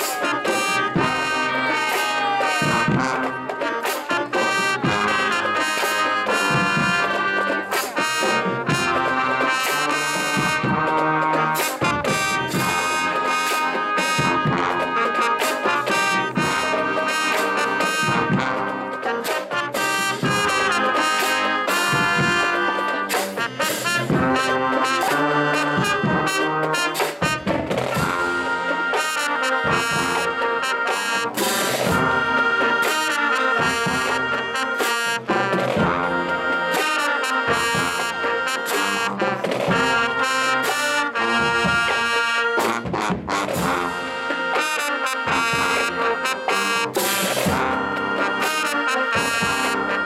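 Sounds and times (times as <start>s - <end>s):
brass playing tune: 0.0s - 50.0s
drums beating: 0.0s - 50.0s.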